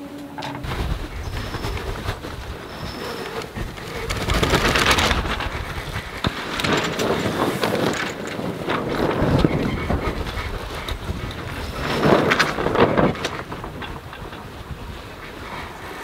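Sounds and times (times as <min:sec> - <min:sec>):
sail cloth flapping: 0:00.0 - 0:16.0
wind rushing on microphone: 0:00.4 - 0:16.0.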